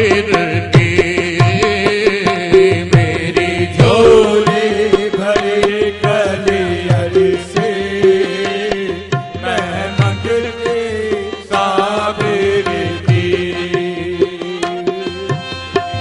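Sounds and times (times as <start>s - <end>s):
harmonium: 0.0s - 16.0s
tabla beating: 0.0s - 16.0s.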